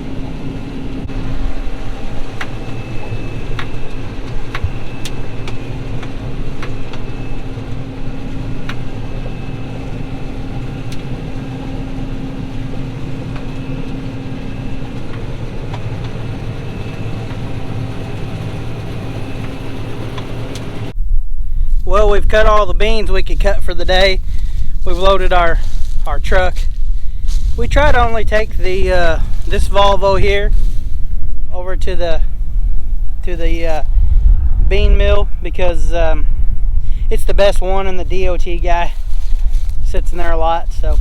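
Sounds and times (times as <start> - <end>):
combine harvester engine hum: 0.0 - 41.0
thin steady whine: 0.0 - 41.0.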